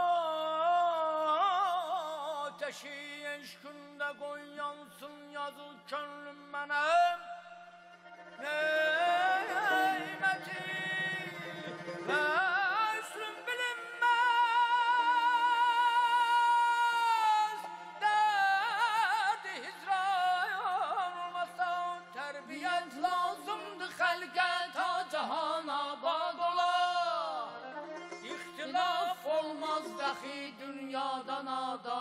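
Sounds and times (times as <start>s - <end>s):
man singing with trills: 0.0s - 7.7s, 8.4s - 27.6s, 28.2s - 32.0s.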